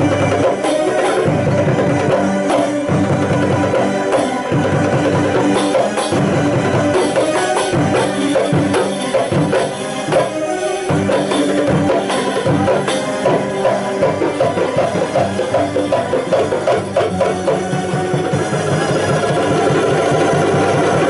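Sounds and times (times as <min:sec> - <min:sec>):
hand drums beating: 0:00.0 - 0:21.0
jingling percussion: 0:00.0 - 0:21.0
sustained melody: 0:00.0 - 0:21.0.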